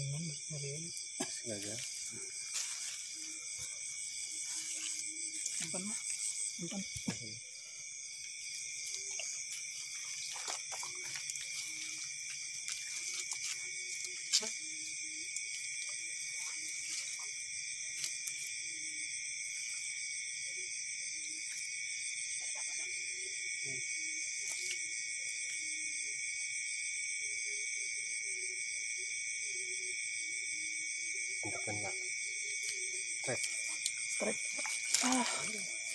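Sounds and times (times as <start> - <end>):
night insects chirping: 0.0 - 35.9.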